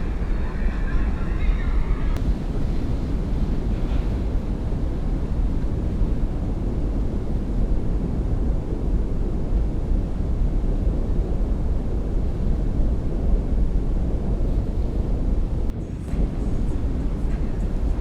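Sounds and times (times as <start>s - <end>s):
boat engine rumble: 0.0s - 18.0s
wind on microphone: 0.0s - 18.0s.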